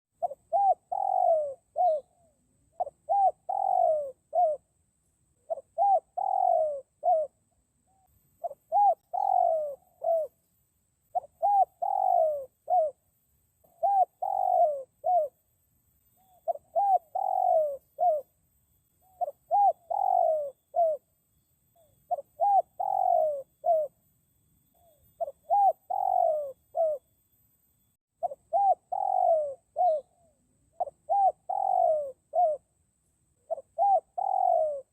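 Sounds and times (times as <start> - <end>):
dove cooing: 0.2 - 10.4, 11.1 - 13.0, 13.6 - 15.4, 16.2 - 18.3, 19.0 - 21.1, 21.7 - 24.0, 24.7 - 27.1, 28.2 - 32.7, 33.4 - 34.9.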